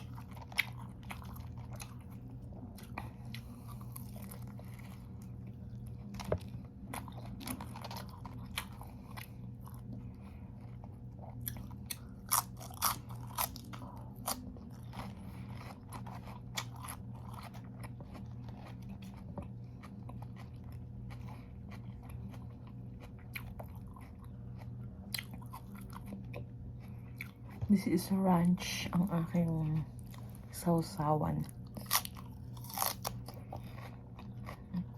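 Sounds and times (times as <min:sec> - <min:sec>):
person chewing crunchy food: 0:00.0 - 0:27.7, 0:29.0 - 0:30.6, 0:31.4 - 0:34.9
steady low hum: 0:00.0 - 0:34.9.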